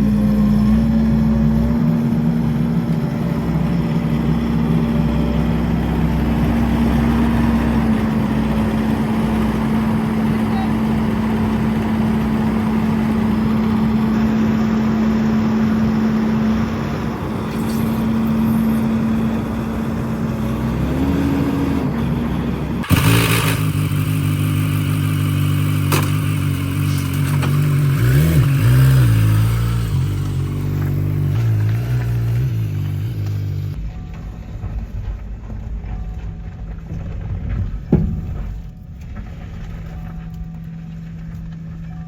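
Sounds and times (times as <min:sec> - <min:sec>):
skid steer engine running: 0:00.0 - 0:42.0.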